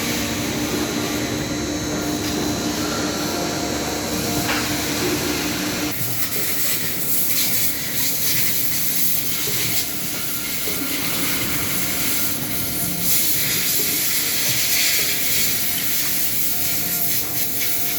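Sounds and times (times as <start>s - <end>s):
faint machine hums: 0.0s - 17.9s
machine hiss: 0.0s - 17.9s.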